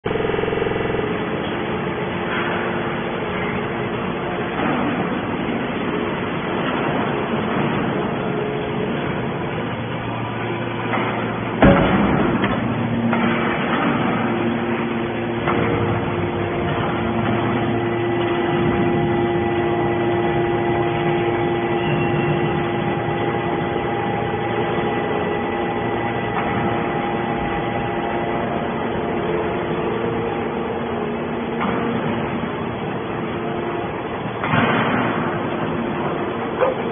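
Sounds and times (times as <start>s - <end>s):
baler machine hum: 0.0s - 36.9s.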